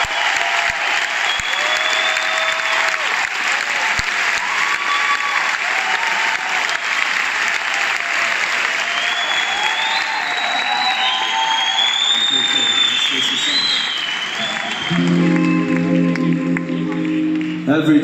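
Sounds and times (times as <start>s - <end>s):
audience applauding: 0.0s - 18.0s
people cheering: 0.0s - 18.0s.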